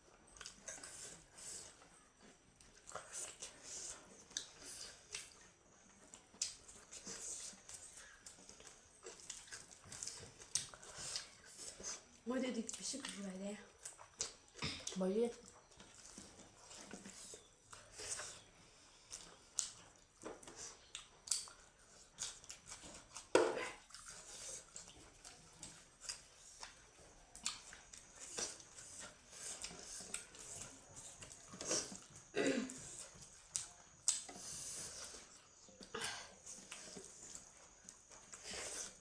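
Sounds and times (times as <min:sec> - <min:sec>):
chewing with wet mouth smacks: 0:00.0 - 0:39.0.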